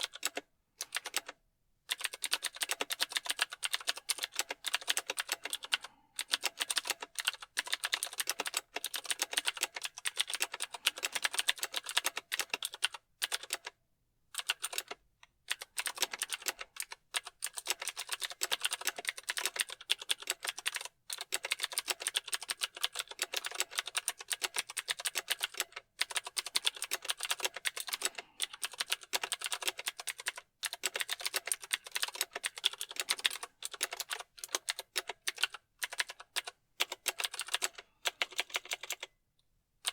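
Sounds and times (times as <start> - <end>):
fast typing on mechanical keyboard: 0.0 - 13.8, 14.4 - 39.1.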